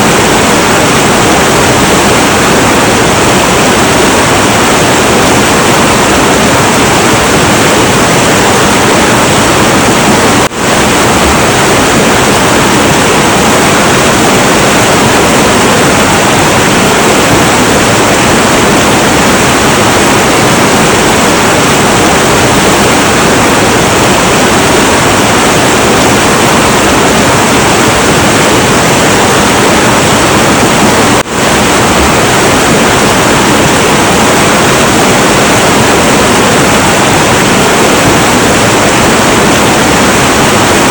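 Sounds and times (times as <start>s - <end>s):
turbulent river water rushing: 0.0s - 40.9s.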